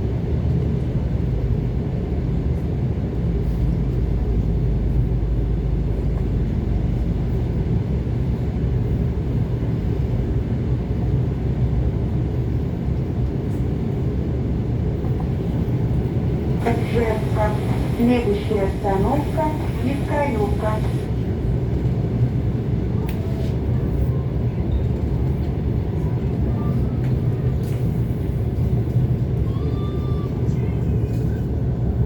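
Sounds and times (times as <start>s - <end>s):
electric train rumbling on track: 0.0s - 32.0s.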